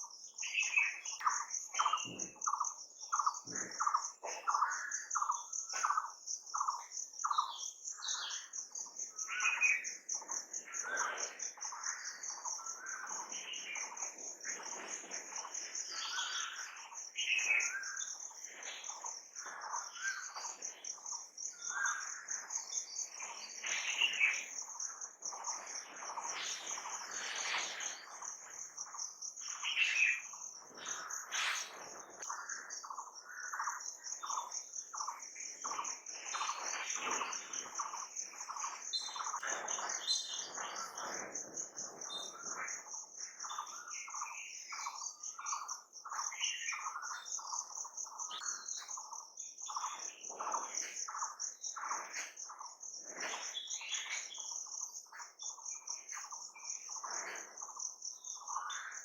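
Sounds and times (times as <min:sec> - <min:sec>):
birds chirping: 0:00.0 - 0:59.0
pulsing insect trill: 0:00.0 - 0:59.0.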